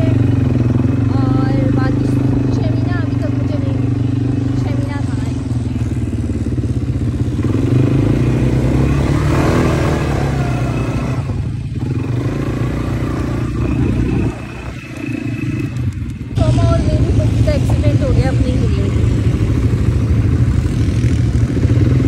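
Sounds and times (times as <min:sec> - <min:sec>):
quad bike engines running: 0:00.0 - 0:22.0.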